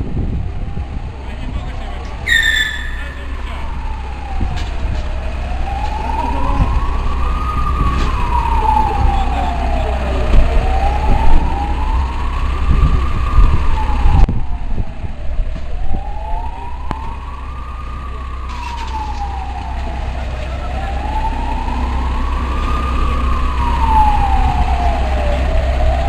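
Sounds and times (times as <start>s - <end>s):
emergency siren wailing: 0.0s - 26.0s
steady low rumble: 0.0s - 26.0s.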